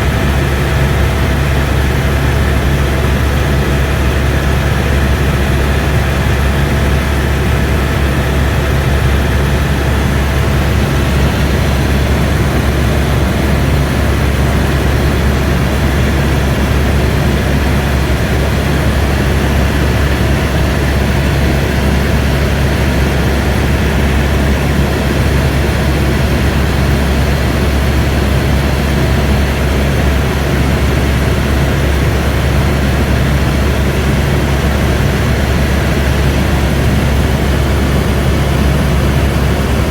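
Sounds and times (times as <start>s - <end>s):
helicopter drone inside cabin: 0.0s - 39.9s.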